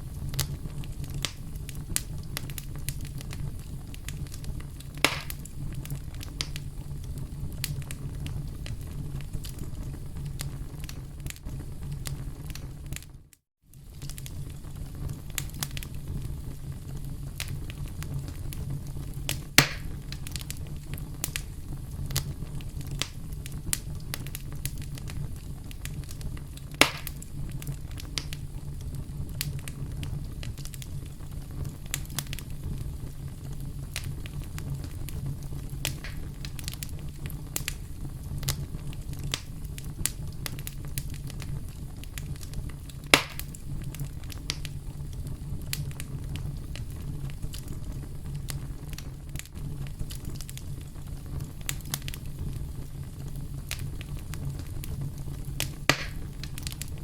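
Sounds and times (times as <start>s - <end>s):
campfire crackling: 0.0s - 57.0s
loud fire pops: 0.0s - 57.0s.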